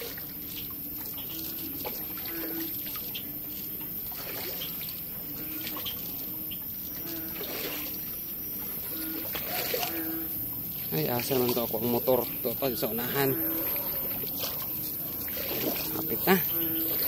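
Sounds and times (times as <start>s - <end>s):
person wading through water: 0.0s - 16.6s
water trickling and splashing: 0.0s - 16.6s.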